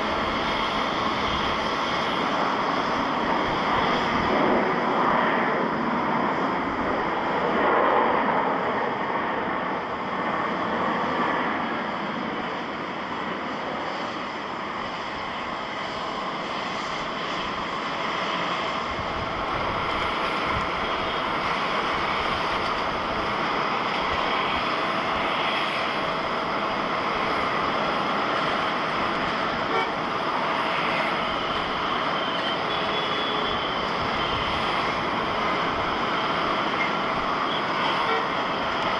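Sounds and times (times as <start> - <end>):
jet engines rushing and whining: 0.0 - 38.9.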